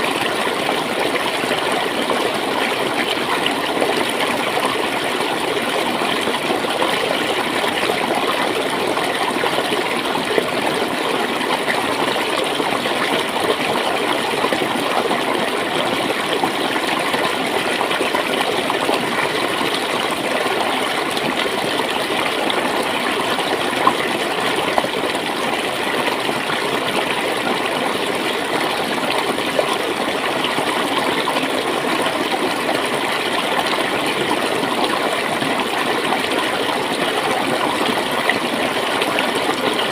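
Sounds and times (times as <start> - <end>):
stream gurgling and splashing: 0.0 - 39.9.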